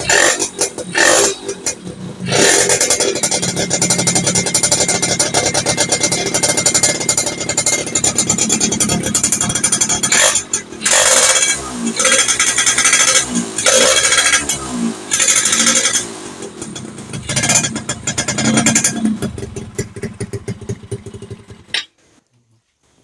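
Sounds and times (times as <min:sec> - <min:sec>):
two-stroke engine revving: 0:00.0 - 0:21.8.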